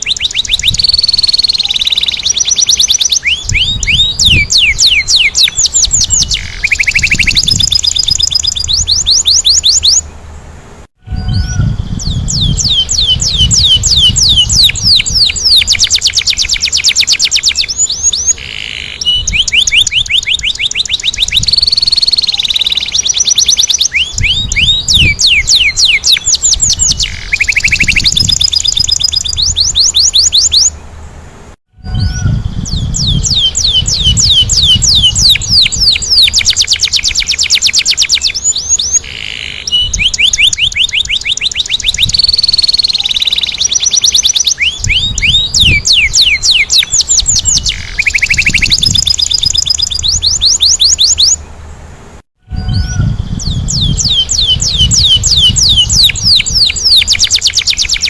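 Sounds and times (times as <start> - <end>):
canary singing rolling trills: 0.0 - 10.3, 11.1 - 31.0, 31.9 - 51.7, 52.5 - 58.0.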